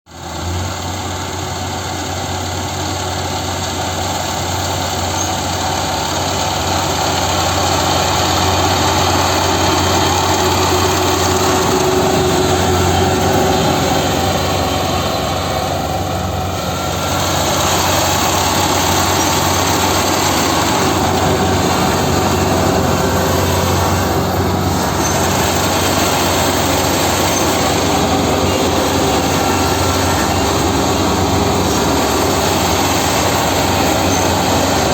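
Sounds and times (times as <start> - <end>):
harvesting machine engine running: 0.2 - 34.9.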